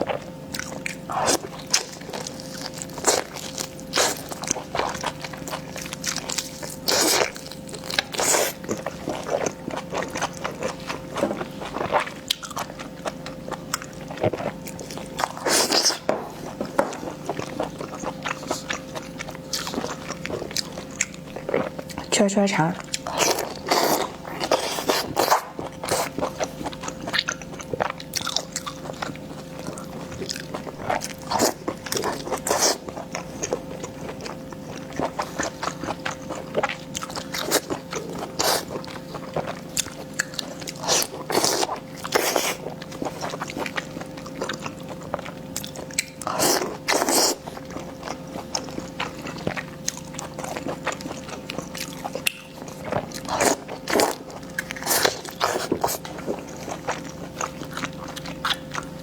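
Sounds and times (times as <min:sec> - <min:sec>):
crunchy food chewing: 0:00.0 - 0:59.0
faint steady hum: 0:00.0 - 0:59.0.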